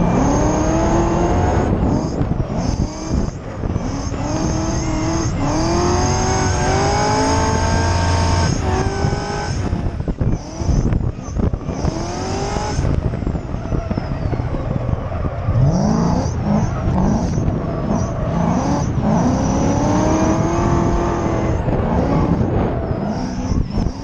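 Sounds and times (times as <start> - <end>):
car engine revving hard: 0.0 - 14.0, 14.7 - 24.0.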